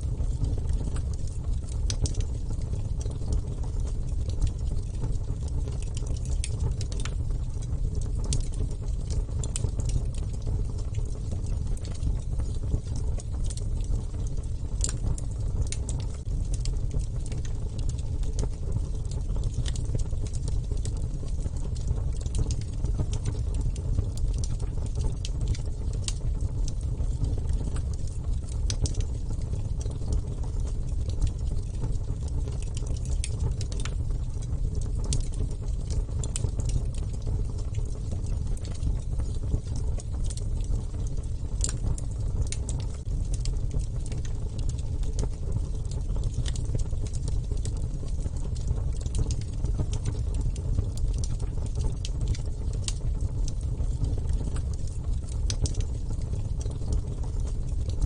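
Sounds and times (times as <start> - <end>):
fire pops and snaps: 0.0 - 58.0
wood fire crackling: 0.0 - 58.0.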